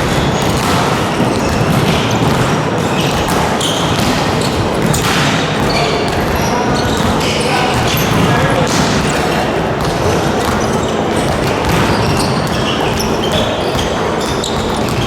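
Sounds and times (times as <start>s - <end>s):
basketballs bouncing on gym floor: 0.0s - 15.0s
busy hall background: 0.0s - 15.0s.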